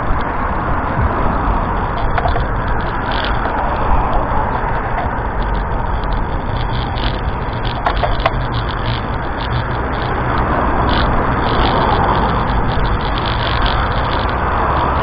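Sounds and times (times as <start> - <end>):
strong wind on microphone: 0.0 - 15.0
sharp clicks: 1.9 - 15.0.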